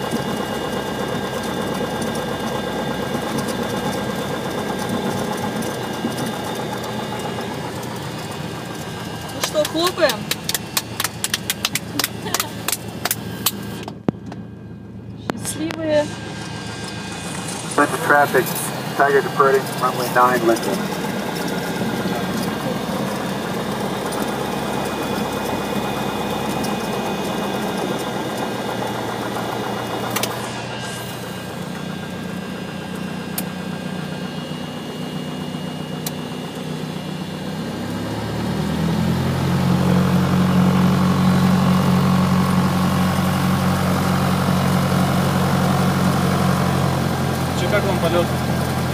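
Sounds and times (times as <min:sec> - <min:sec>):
airplane engine and propeller: 0:00.0 - 0:48.9.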